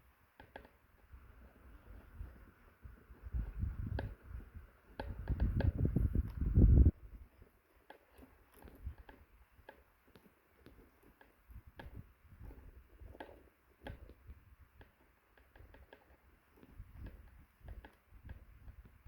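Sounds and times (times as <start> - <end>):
faint ticks and taps: 0.3 - 6.6, 7.2 - 19.0.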